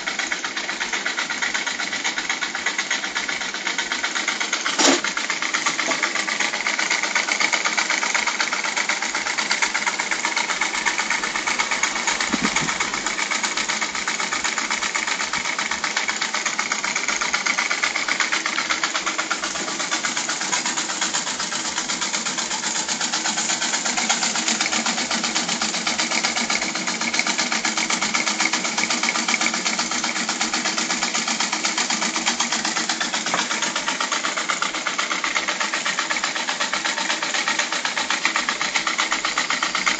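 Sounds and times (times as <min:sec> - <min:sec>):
model steam engine chattering: 0:00.0 - 0:39.9.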